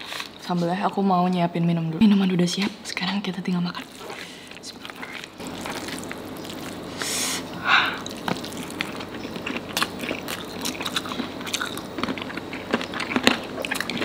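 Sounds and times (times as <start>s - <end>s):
wet chewing: 2.0s - 14.0s.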